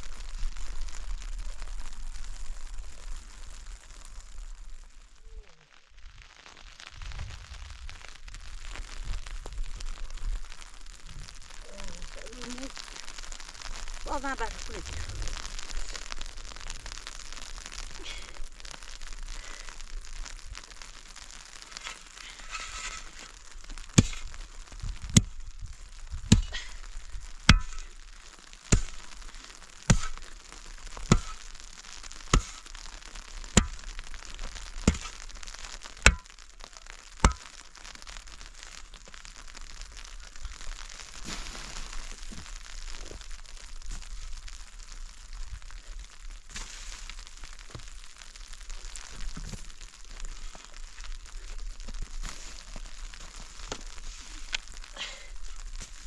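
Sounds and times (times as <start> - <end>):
crackling hiss: 0.0 - 56.0.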